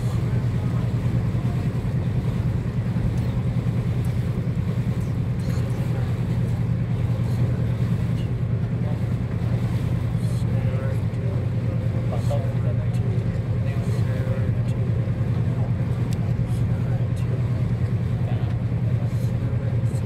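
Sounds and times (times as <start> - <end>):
motorboat engine droning: 0.0 - 20.0.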